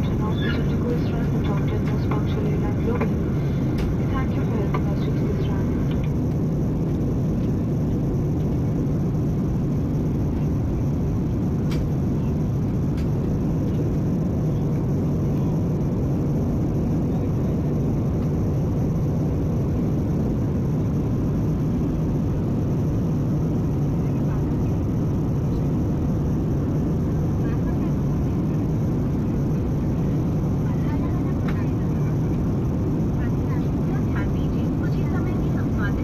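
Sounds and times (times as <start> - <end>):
jet cabin engine rumble: 0.0 - 36.0.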